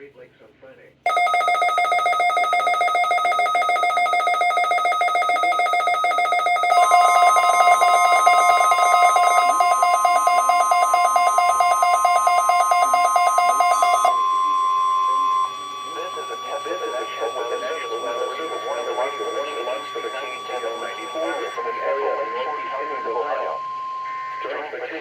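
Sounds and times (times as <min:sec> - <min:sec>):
rapidly pulsing alert alarm: 0:01.1 - 0:25.0
steady warning alarm tone: 0:01.1 - 0:25.0.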